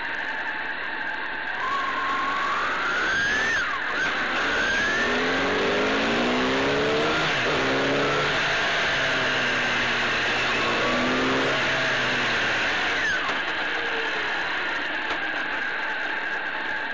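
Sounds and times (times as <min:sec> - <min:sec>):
wind and road noise: 0:00.0 - 0:16.9
motorcycle engine accelerating: 0:01.5 - 0:16.9.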